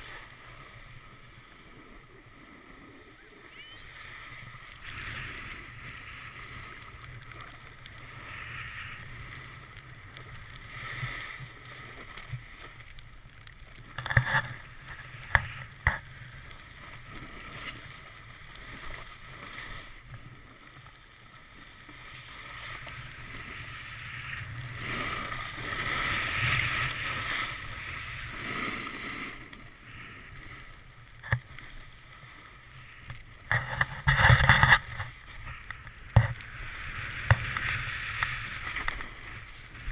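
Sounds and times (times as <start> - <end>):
snowboard scraping over snow: 0.0 - 39.9.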